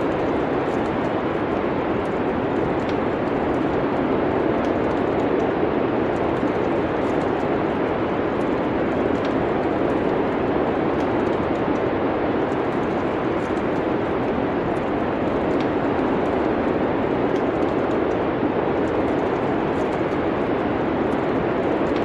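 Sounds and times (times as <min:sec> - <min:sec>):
snowstorm wind: 0:00.0 - 0:22.0
wood fire crackling: 0:00.0 - 0:22.0.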